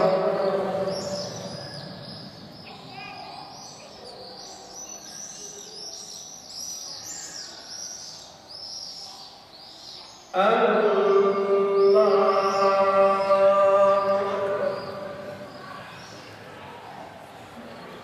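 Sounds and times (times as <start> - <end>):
small birds chirping: 0.0 - 10.8, 11.6 - 16.7
low hush of a hall: 0.0 - 18.0.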